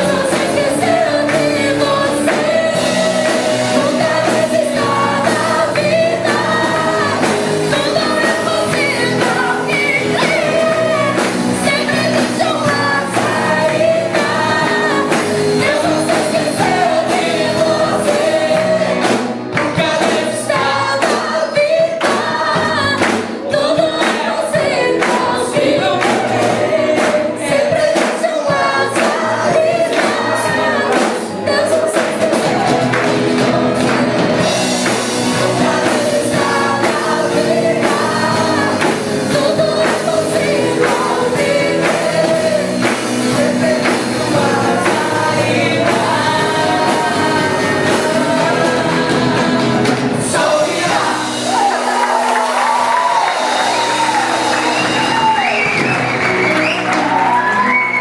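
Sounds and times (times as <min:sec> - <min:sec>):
drum kit: 0:00.0 - 0:58.0
electric guitar: 0:00.0 - 0:58.0
gospel choir singing: 0:00.0 - 0:58.0.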